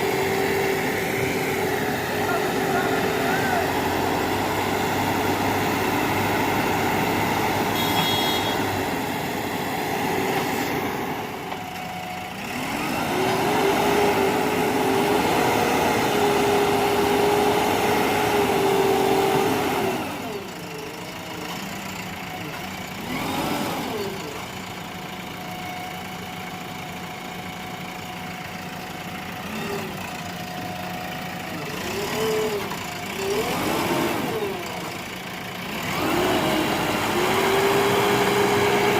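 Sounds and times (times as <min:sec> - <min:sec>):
diesel engine revving and idling: 0:00.0 - 0:38.9.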